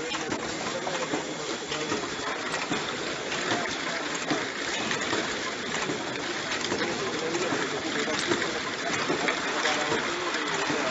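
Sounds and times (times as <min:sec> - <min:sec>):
machinery clicks and knocks: 0:00.0 - 0:10.9.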